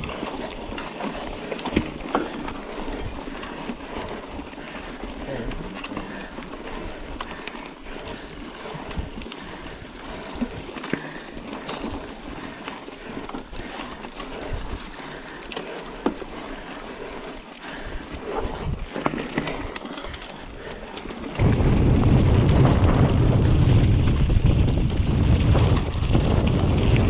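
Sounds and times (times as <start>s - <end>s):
bike tyres crackling on stones: 0.0s - 27.0s
wind rumble on microphone: 0.0s - 27.0s.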